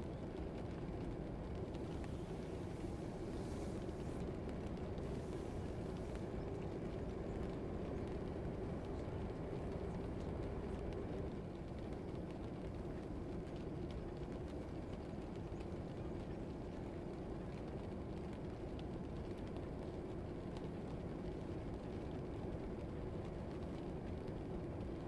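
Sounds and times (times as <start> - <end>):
low rumble of room noise: 0.0 - 25.0.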